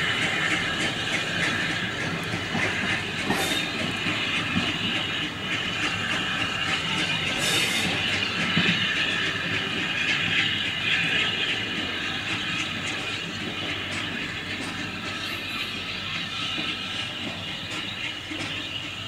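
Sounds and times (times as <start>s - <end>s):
train wheels rumbling and clattering: 0.0s - 19.0s.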